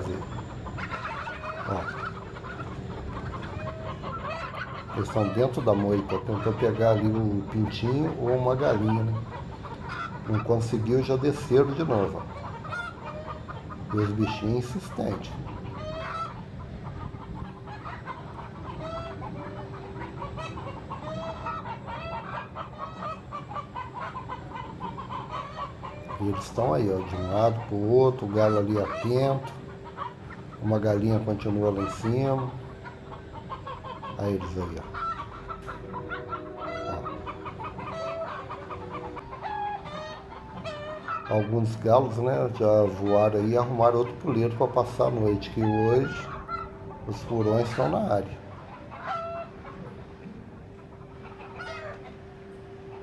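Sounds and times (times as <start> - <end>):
chicken alarm calls: 0.0 - 53.0
chickens clucking: 0.0 - 53.0
steady hum: 0.0 - 53.0.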